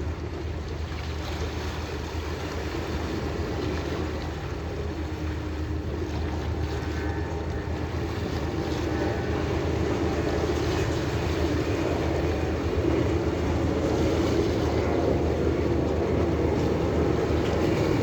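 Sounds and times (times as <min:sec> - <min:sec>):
boat engine running: 0:00.0 - 0:18.0
water rushing: 0:00.0 - 0:18.0
wind on microphone: 0:00.0 - 0:18.0.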